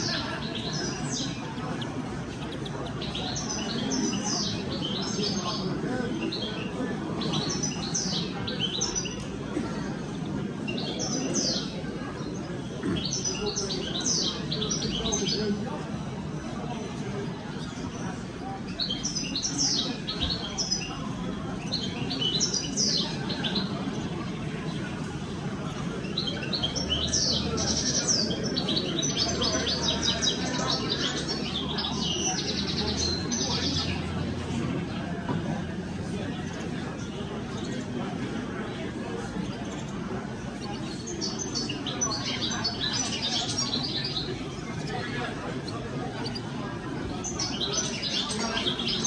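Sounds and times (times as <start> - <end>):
caged birds chirping and singing: 0.0 - 49.0
murmur of crowd chatter: 0.0 - 49.0.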